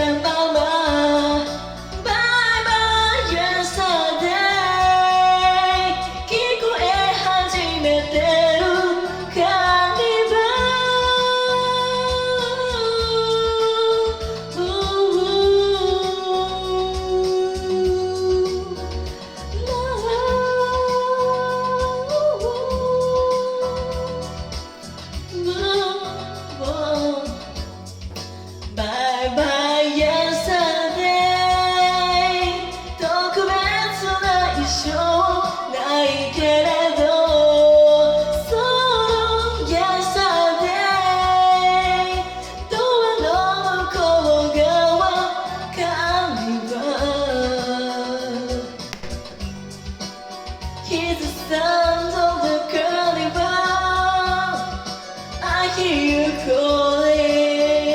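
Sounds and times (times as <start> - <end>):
person singing: 0.0 - 27.6, 28.8 - 49.5
karaoke backing track: 0.0 - 57.9.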